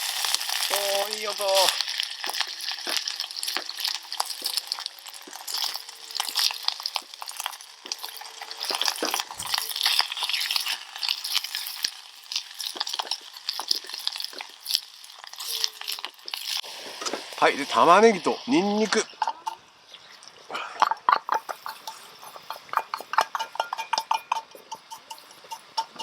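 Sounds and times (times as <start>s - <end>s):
chicken sizzling in oil: 0.0s - 26.0s
utensil stirring in pan: 0.0s - 26.0s.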